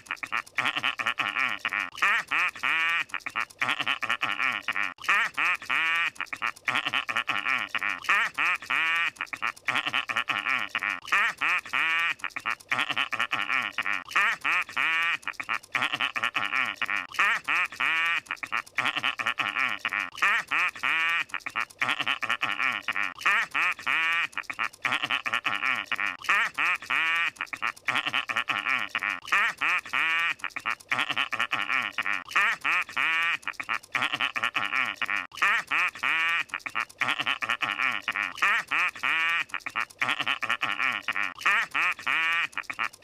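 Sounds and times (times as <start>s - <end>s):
cartoon laugh: 0.0s - 43.0s.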